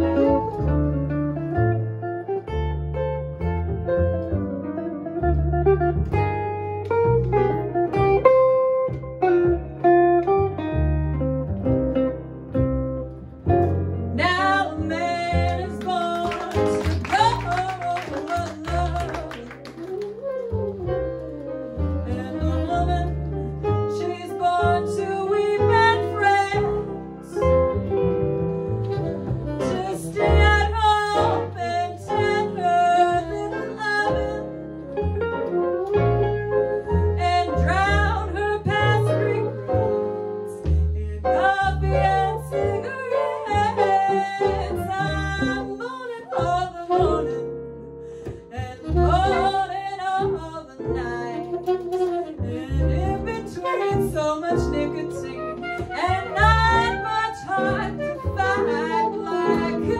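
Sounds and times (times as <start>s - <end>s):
archtop guitar: 0.0s - 59.9s
upright double bass: 0.0s - 59.9s.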